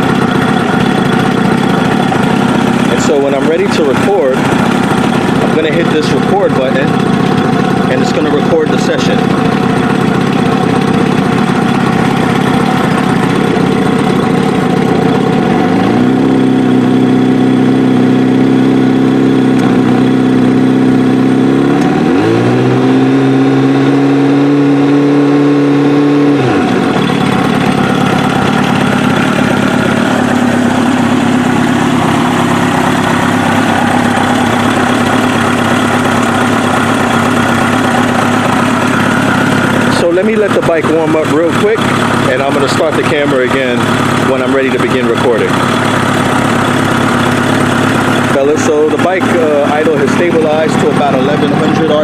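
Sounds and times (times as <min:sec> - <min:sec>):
motorcycle engine revving and idling: 0:00.0 - 0:52.0.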